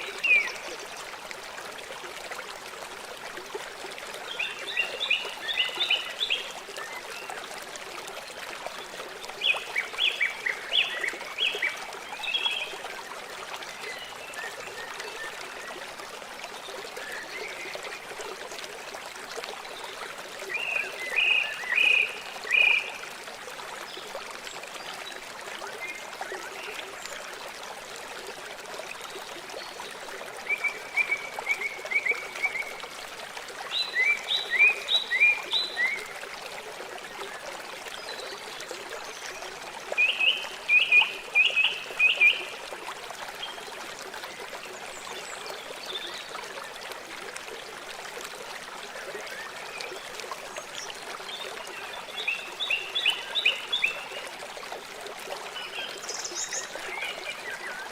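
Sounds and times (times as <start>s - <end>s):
river water flowing: 0.0s - 57.9s.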